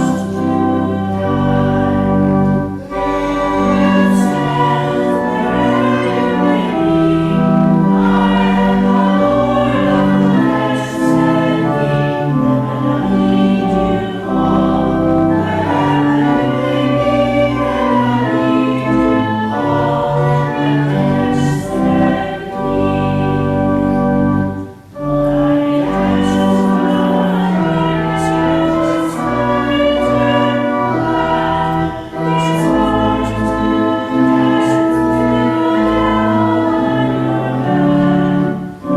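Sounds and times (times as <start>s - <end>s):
choir singing: 0.0s - 38.9s
organ playing: 0.0s - 38.9s.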